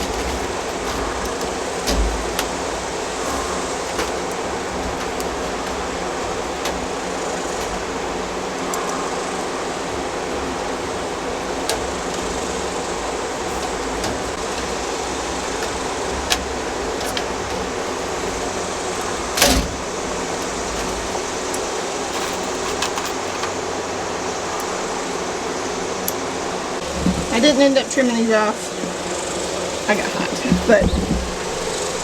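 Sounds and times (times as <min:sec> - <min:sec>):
steady fan-like noise: 0:00.0 - 0:32.0.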